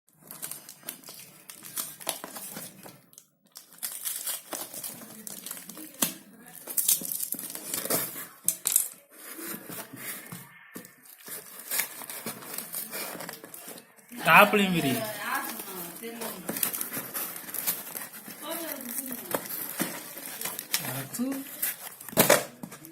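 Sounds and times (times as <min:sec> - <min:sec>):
wrapping crinkling and rustling: 0:00.1 - 0:22.9.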